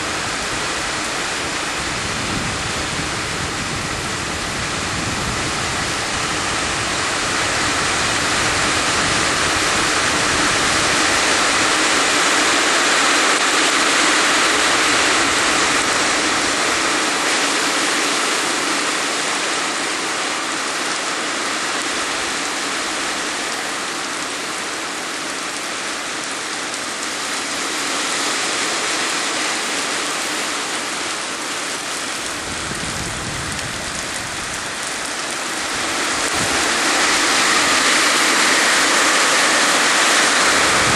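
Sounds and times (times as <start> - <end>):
heavy rain downpour: 0.0 - 40.9.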